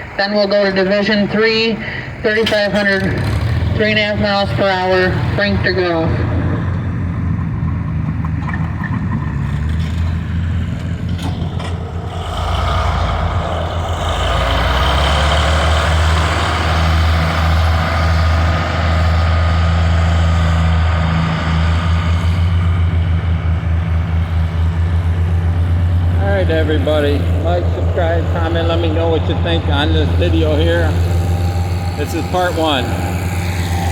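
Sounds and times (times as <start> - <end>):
tractor engine throbbing: 0.0 - 33.9.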